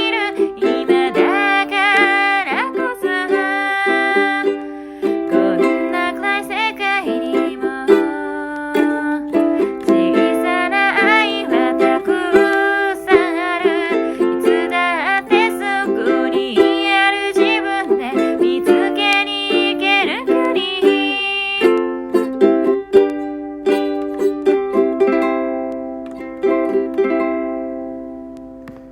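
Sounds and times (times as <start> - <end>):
person singing: 0.0 - 25.2
ukulele playing: 0.0 - 28.9.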